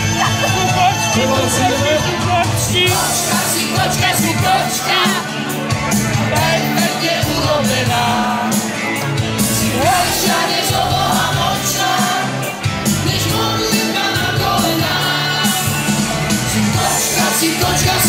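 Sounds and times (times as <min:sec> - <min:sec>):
upbeat song with vocals: 0:00.0 - 0:18.0.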